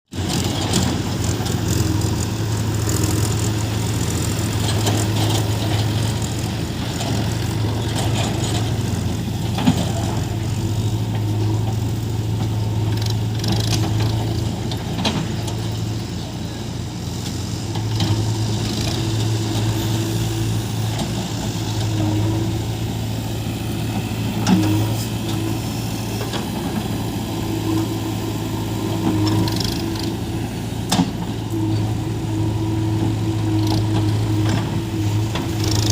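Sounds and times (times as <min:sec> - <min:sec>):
heavy diesel engines running: 0:00.1 - 0:35.9.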